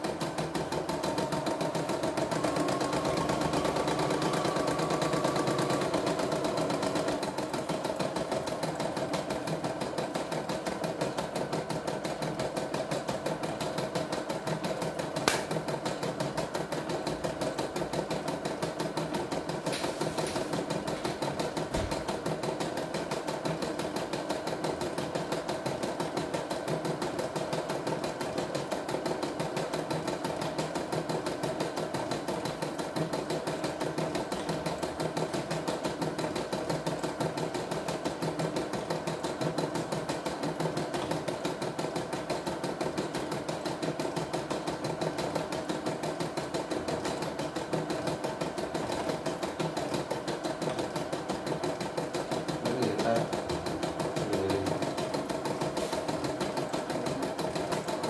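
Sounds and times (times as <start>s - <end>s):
embroidery machine stitching: 0.0s - 58.0s.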